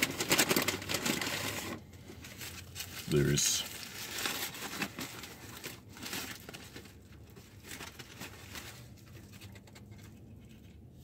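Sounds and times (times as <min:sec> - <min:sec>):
burger wrapper crinkling: 0:00.0 - 0:11.0.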